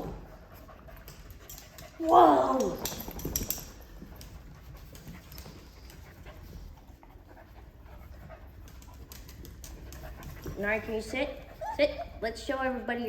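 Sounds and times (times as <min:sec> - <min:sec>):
dog panting softly: 0:00.0 - 0:02.0, 0:03.9 - 0:12.6.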